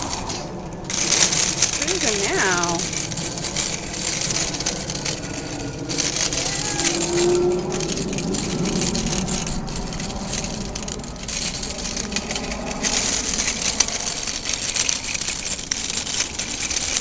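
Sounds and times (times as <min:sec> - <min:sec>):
bicycle rattling over pavement: 0:00.0 - 0:17.0.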